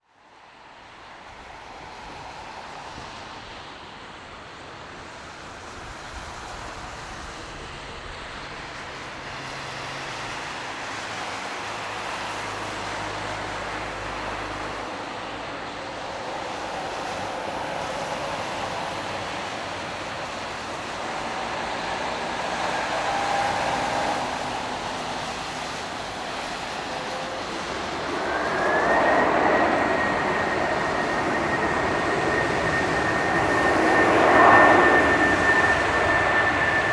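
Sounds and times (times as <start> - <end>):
jet engines roaring: 1.2 - 36.9
high jet whine: 6.1 - 36.9.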